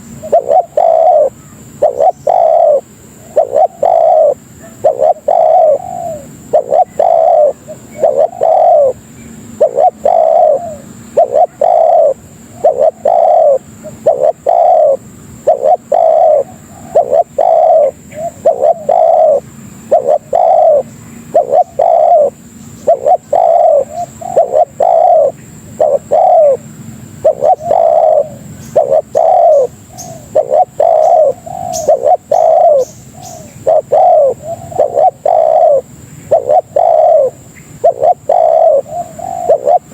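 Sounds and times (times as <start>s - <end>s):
dove cooing: 0.0s - 39.9s
faint high whine: 0.0s - 39.9s.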